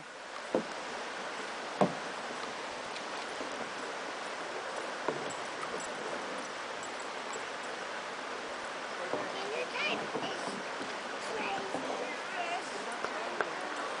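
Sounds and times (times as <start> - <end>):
river hiss: 0.0 - 14.0.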